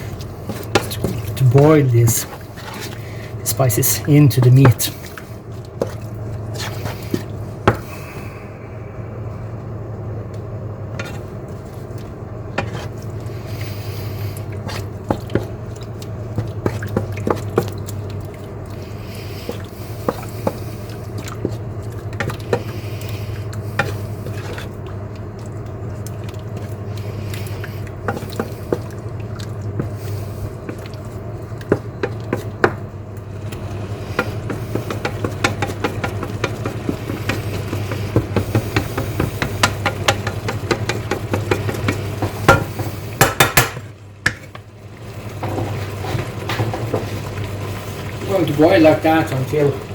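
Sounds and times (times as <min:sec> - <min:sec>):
food bubbling in a pan: 0:00.0 - 0:04.2, 0:04.9 - 0:49.9
steady low hum: 0:00.0 - 0:49.9.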